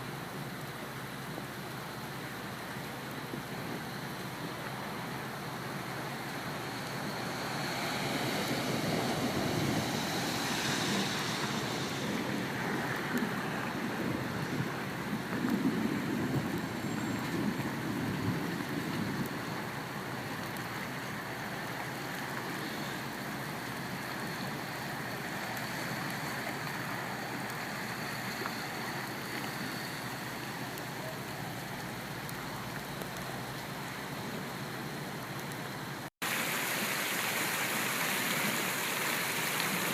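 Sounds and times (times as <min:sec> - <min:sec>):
floodwater rushing: 0:00.0 - 0:39.9
rain: 0:00.0 - 0:39.9.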